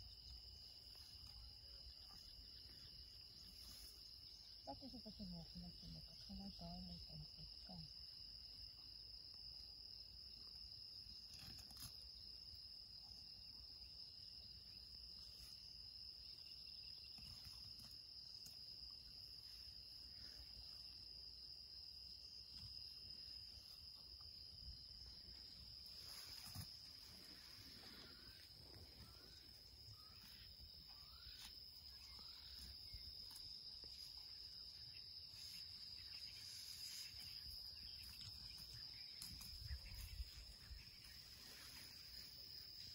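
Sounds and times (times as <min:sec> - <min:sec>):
high insect trill: 0:00.0 - 0:42.9
lower insect trill: 0:00.0 - 0:42.9.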